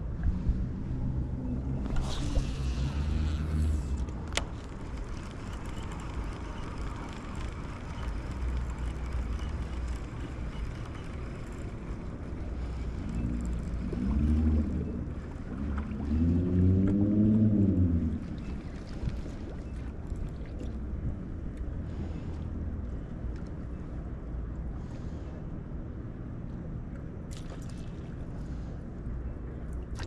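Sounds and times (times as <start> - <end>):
engine droning: 0.0 - 26.4.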